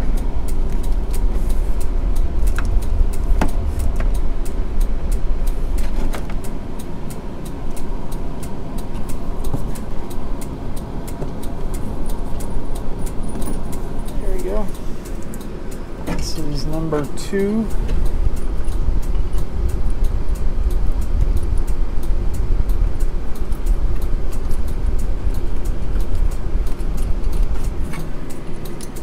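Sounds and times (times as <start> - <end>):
steady low rumble: 0.0 - 29.0
turn signal flasher clicking: 0.0 - 29.0.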